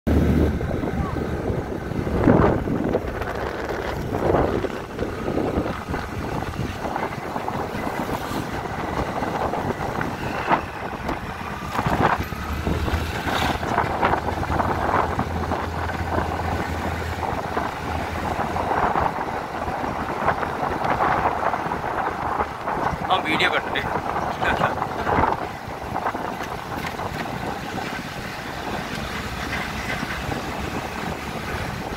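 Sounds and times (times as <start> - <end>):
road noise: 0.0 - 31.9
scooter engine: 0.1 - 23.2, 24.0 - 31.9
wind buffeting microphone: 0.1 - 31.9.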